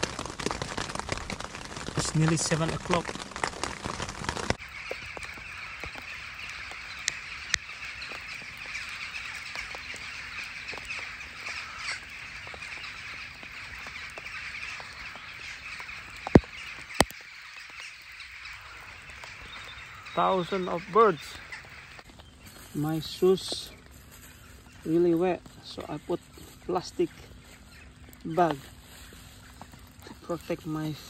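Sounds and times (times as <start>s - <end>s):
crows cawing: 0.0s - 31.0s.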